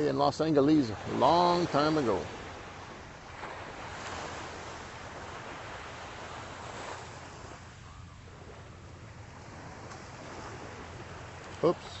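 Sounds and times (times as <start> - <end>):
light breeze on microphone: 0.0 - 12.0
surf washing on beach: 0.0 - 12.0.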